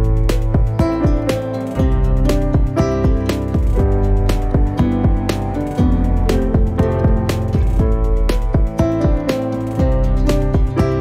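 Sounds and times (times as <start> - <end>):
plucked notes over bass beat: 0.0 - 11.0.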